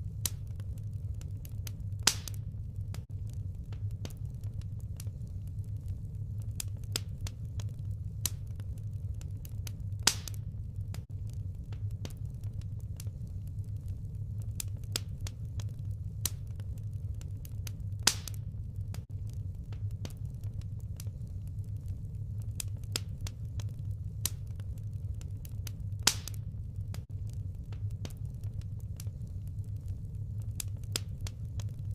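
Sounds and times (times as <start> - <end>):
firewood crackling and popping: 0.0 - 31.9
low rumble of fire: 0.0 - 31.9.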